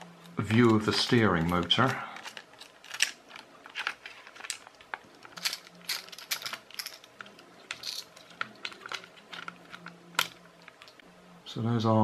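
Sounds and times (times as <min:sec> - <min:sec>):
plastic parts scraping: 0:00.0 - 0:11.0.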